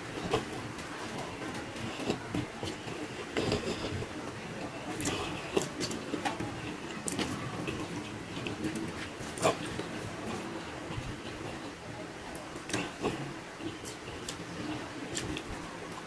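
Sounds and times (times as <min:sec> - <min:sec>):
man chewing and lip-smacking: 0:00.0 - 0:11.8, 0:12.4 - 0:16.0.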